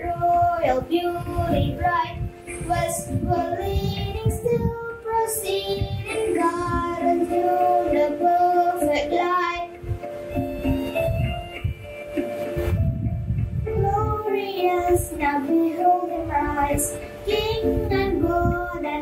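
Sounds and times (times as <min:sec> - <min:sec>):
girl singing: 0:00.0 - 0:11.2, 0:13.6 - 0:19.0.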